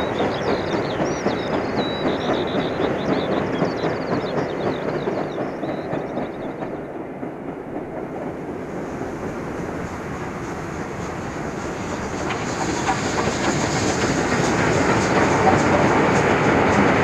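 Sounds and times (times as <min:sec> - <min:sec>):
train wagons clattering over rails: 0:00.0 - 0:17.0.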